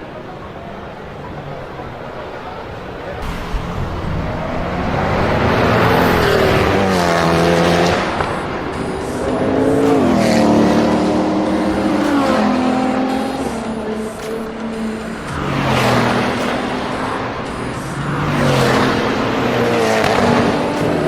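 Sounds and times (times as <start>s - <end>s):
car engine accelerating hard: 0.4s - 21.0s.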